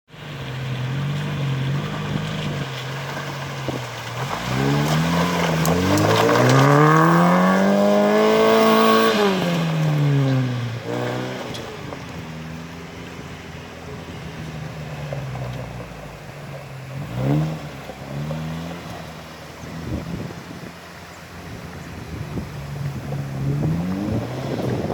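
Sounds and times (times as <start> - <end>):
car engine revving: 0.1 - 24.9.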